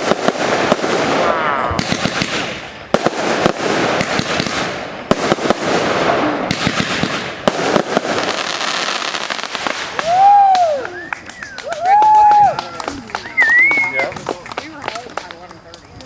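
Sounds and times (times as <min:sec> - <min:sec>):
fireworks crackling: 0:00.0 - 0:16.0
sharp fireworks bangs: 0:00.0 - 0:16.0.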